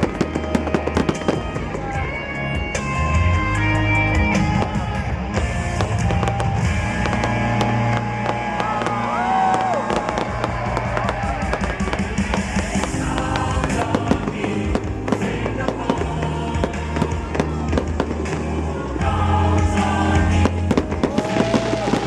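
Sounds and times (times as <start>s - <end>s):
fireworks bursting and crackling: 0.0s - 2.2s, 4.3s - 19.0s, 19.8s - 22.0s
medley of patriotic songs: 0.0s - 22.0s.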